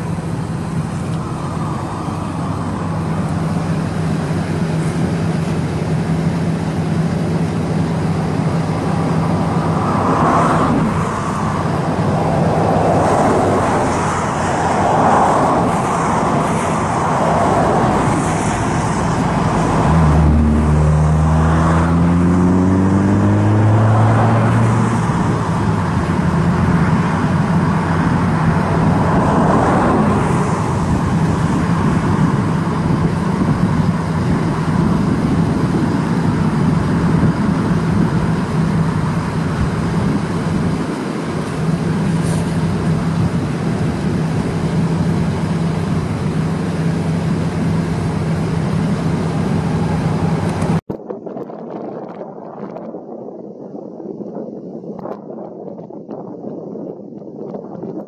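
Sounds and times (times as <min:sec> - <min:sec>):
cars passing: 0:00.0 - 0:50.9
vehicle engine accelerating: 0:00.0 - 0:50.9
road traffic hum: 0:00.0 - 0:58.0.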